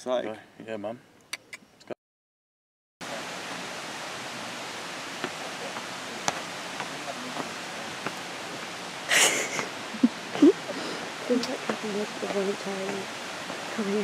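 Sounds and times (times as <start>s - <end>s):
steady outdoor hiss: 0.0s - 2.0s, 3.0s - 14.0s.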